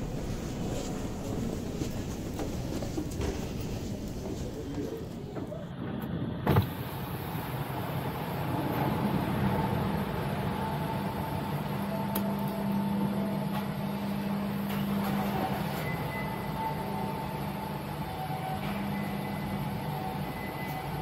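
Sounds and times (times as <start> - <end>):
engines and ventilation humming: 0.0 - 21.0.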